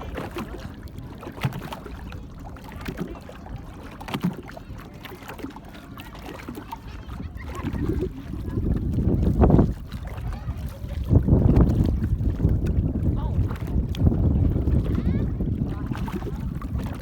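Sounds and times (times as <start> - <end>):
water slapping against boat hull: 0.0 - 17.0.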